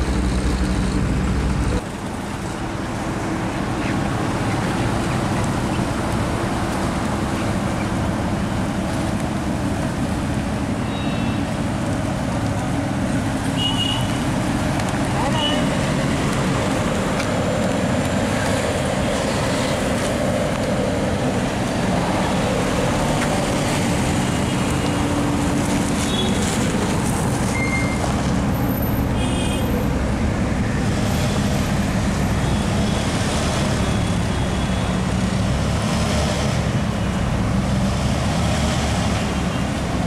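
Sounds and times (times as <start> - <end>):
car engines idling: 0.0 - 35.7
street traffic noise: 0.0 - 40.0.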